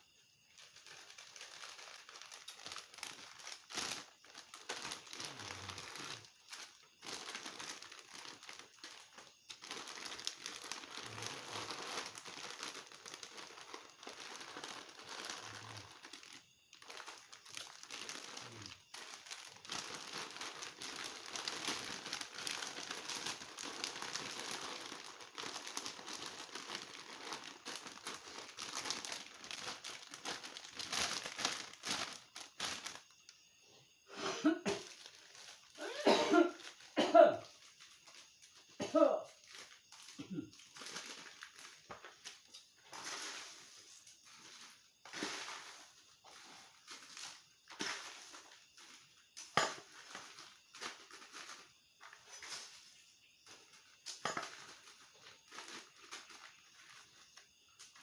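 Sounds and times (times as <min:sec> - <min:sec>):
dry material crinkling: 0:00.5 - 0:33.3, 0:34.7 - 0:52.8, 0:53.4 - 0:58.0.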